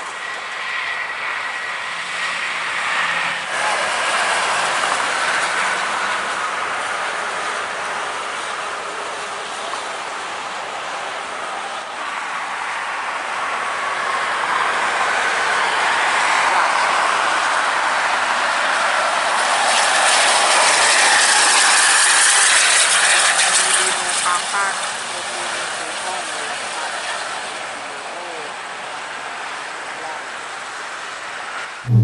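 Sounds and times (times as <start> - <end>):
bus passing close: 0.0 - 32.0
highway traffic rushing: 0.0 - 32.0.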